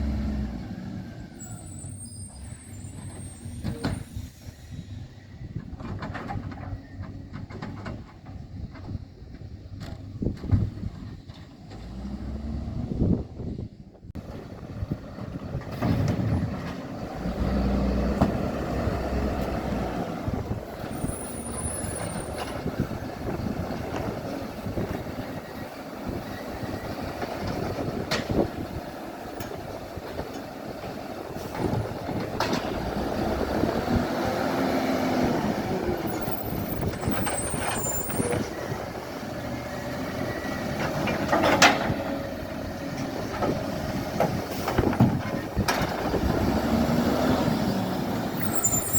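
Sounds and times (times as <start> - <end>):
garbage truck engine droning: 0.0 - 48.9.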